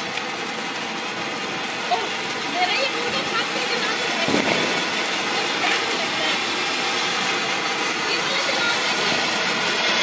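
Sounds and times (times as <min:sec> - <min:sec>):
firework fountain hissing: 0:00.0 - 0:10.0.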